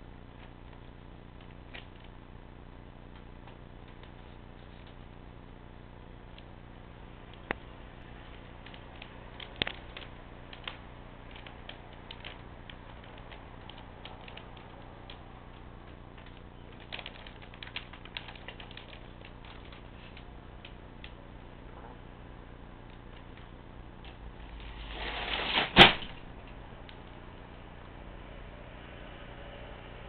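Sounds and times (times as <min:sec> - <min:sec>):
low hum: 0:00.0 - 0:25.3, 0:26.0 - 0:30.0.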